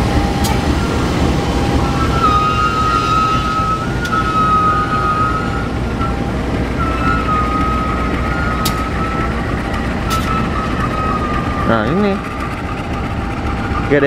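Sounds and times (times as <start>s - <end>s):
high squealing tone: 0.0s - 14.0s
locomotive engine rumbling: 0.0s - 14.0s.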